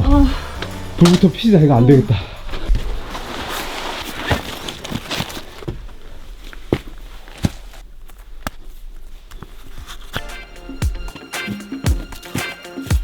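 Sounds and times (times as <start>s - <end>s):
footsteps on forest floor: 0.0s - 13.0s.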